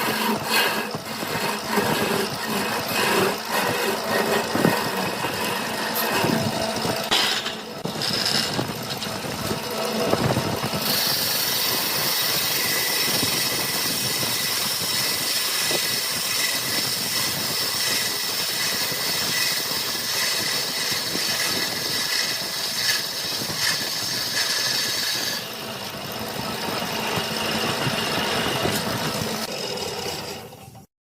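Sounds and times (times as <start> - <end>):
high machine whine: 0.0 - 30.9
wood lathe drone: 0.0 - 30.9.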